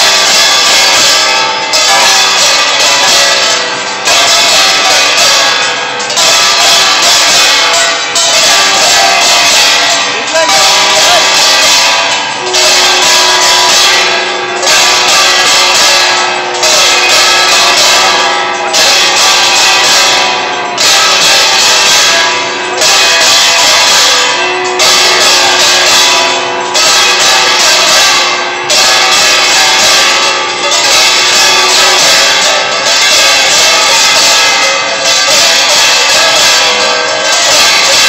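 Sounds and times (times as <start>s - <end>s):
bells ringing: 0.0s - 38.0s
brass gongs clanging: 0.0s - 38.0s
hand cymbals clashing: 0.0s - 38.0s.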